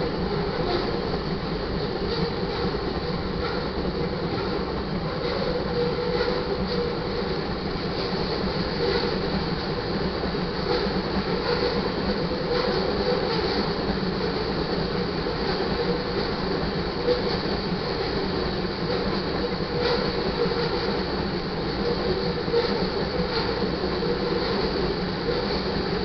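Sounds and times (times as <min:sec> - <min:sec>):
freight train rolling on rails: 0:00.0 - 0:26.0.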